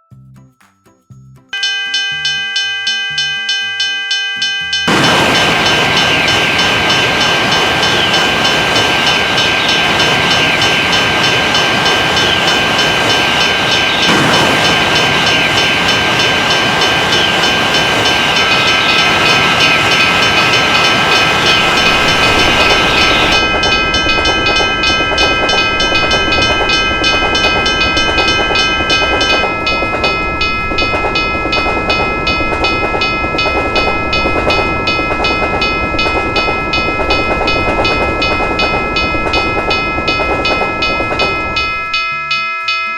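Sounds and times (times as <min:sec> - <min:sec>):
crossing bell ringing: 0:01.5 - 0:42.9
train wheels clattering over rails: 0:01.8 - 0:42.2.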